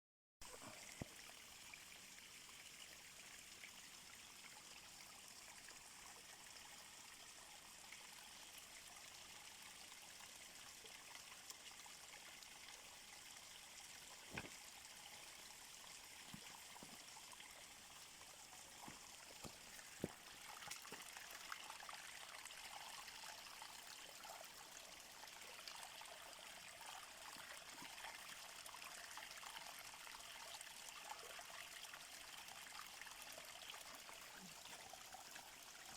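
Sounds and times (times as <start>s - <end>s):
water trickling: 0.4s - 35.9s.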